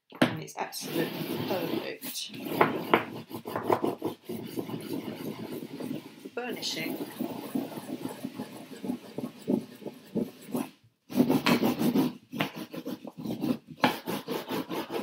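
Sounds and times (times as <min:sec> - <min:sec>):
paper rubbing strokes: 0:00.8 - 0:15.0.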